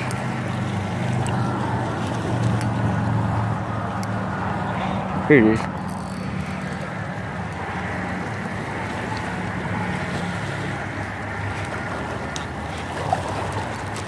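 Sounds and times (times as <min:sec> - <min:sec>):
waves lapping against rocks: 0:00.0 - 0:14.0.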